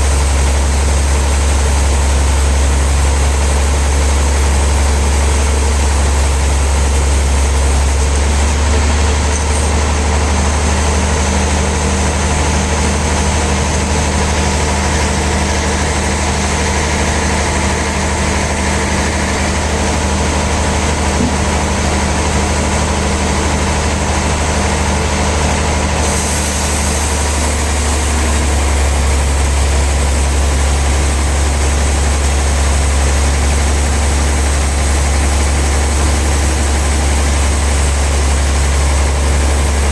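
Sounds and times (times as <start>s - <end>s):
low machinery drone: 0.0s - 39.9s.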